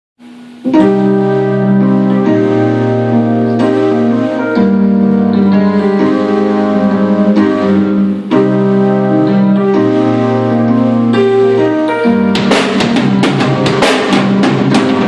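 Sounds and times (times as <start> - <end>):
electronic keyboard playing chords: 0.2 - 15.0.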